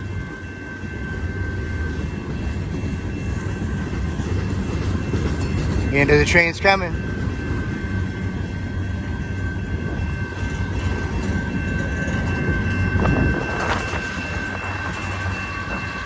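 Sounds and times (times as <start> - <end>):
freight train wheels clattering: 1.8 - 16.0.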